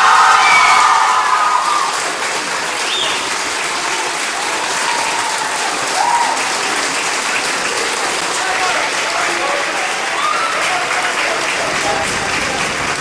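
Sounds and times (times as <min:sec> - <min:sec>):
crowd clapping: 0:00.0 - 0:13.0.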